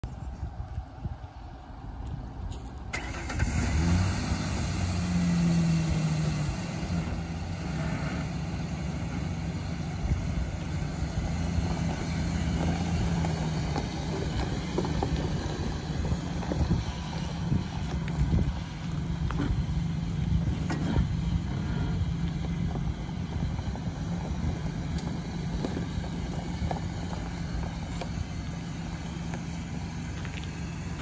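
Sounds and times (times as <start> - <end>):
car engine starting and idling: 1.6 - 31.0.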